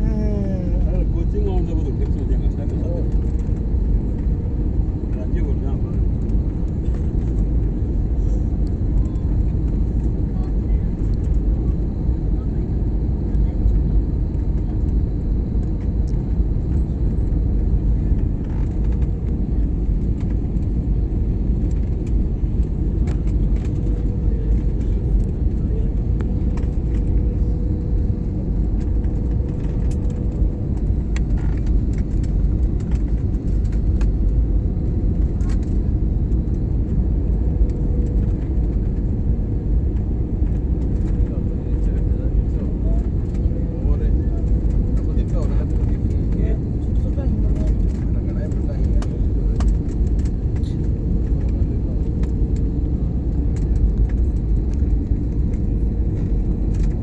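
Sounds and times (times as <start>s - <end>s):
airliner engines and airflow rumble: 0.0s - 57.0s.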